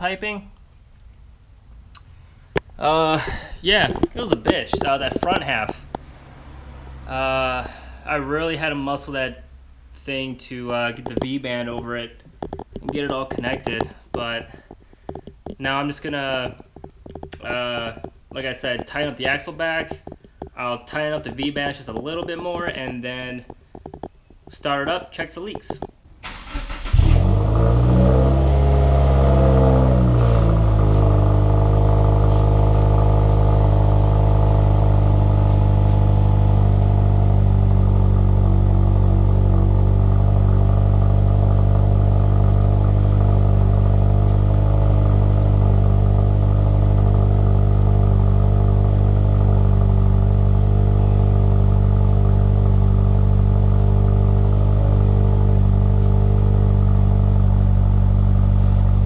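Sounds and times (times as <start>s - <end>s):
car engine starting and idling: 0.6s - 59.0s.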